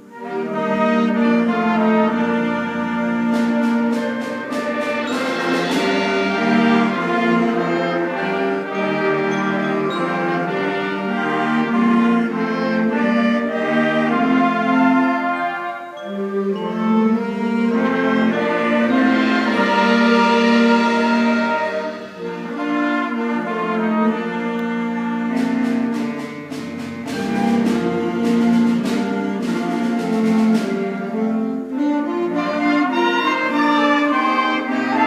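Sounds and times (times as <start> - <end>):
concert band playing chords: 0.0 - 35.0.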